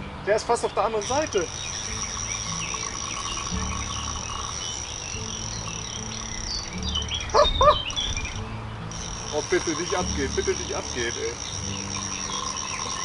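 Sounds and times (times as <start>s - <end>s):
high insect trill: 0.5s - 13.0s
frogs croaking: 0.7s - 13.0s.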